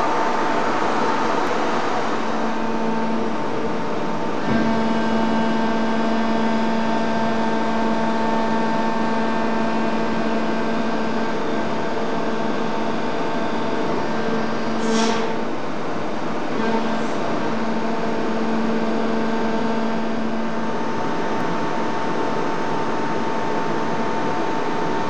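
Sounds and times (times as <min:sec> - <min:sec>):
injection moulding machine hum: 0:00.0 - 0:25.0.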